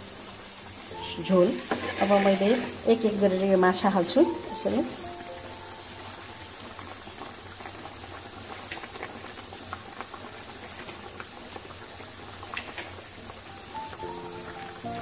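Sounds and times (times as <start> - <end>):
broth boiling in a wok: 0.0 - 15.0.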